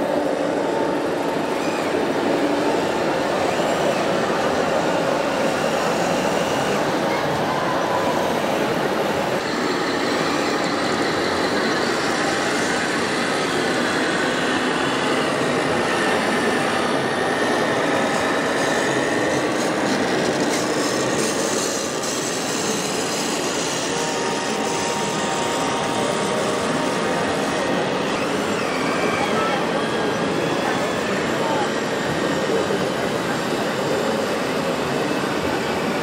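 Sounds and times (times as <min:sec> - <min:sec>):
busy exhibition hall din: 0:00.0 - 0:36.0.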